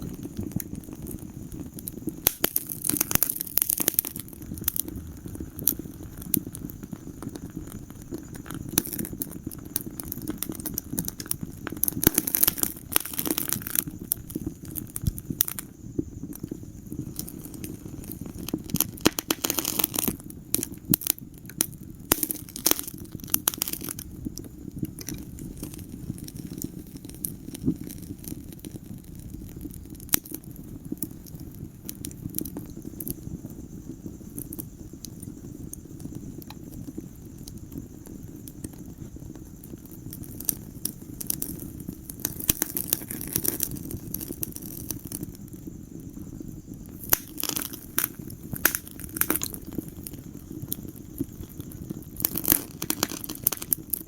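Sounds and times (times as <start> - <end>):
fire rumbling: 0.0 - 54.0
wood fire crackling and popping: 0.0 - 54.0.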